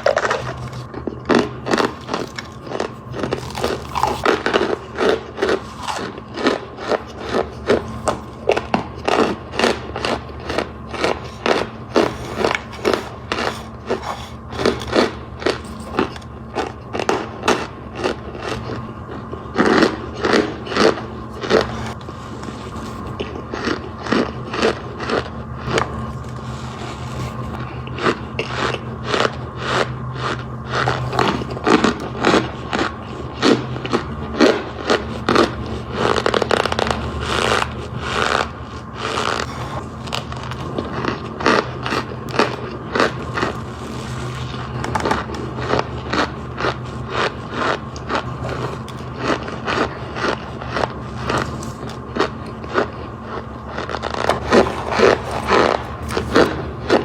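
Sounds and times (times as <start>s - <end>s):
marshmallows being crunched: 0.0s - 57.0s.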